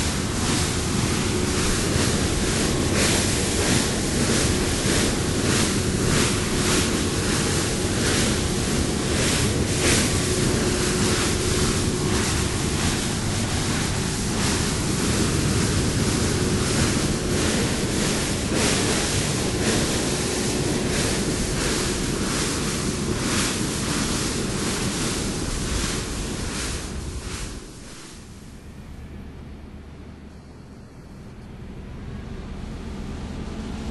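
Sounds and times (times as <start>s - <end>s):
wind gusting on microphone: 0.0s - 28.5s
faint steady hum: 0.0s - 33.9s.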